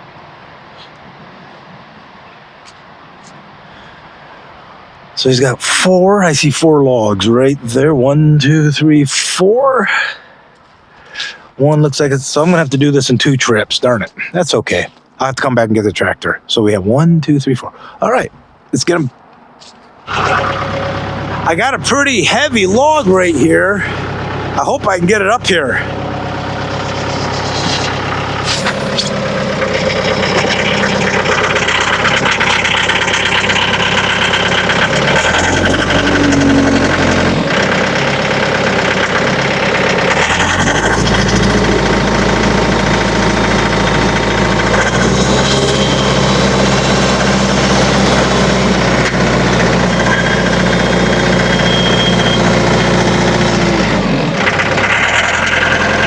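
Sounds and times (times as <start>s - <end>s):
tractor diesel engine under load: 5.2s - 15.4s, 19.6s - 56.0s.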